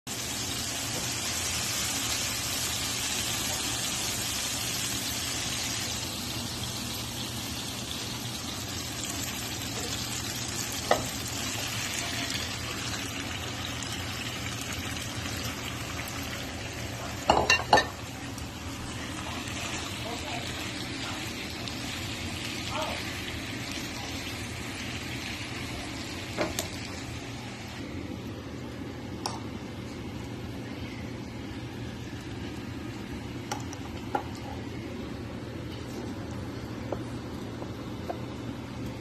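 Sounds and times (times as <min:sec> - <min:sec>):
tomatoes sizzling in a frying pan: 0:00.1 - 0:39.0.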